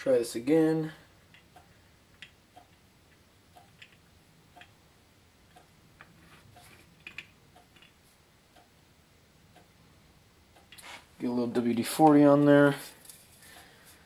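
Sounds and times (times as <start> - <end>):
faint clock-like ticking: 0.1 - 14.0.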